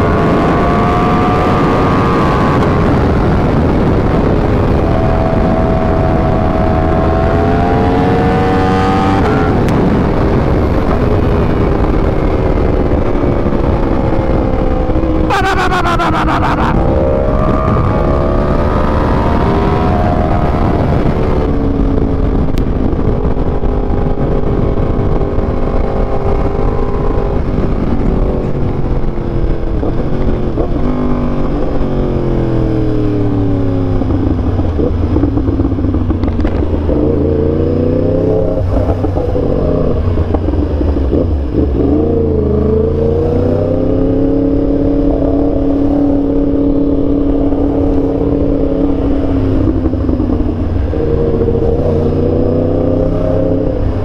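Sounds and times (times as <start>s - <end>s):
motorcycle engine: 0.0s - 54.0s
wind rushing over microphone: 0.0s - 54.0s.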